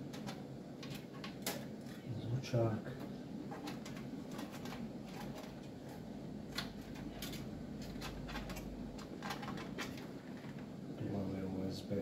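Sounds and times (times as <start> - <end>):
clicks and rustles of cables: 0.0 - 2.1, 2.9 - 10.7
faint low hum: 0.0 - 12.0.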